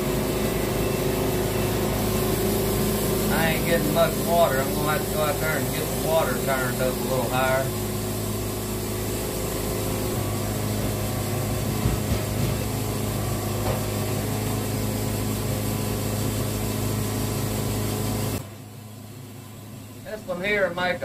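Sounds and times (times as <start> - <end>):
band saw cutting log: 0.0 - 18.4
sawmill engine hum: 0.0 - 21.0.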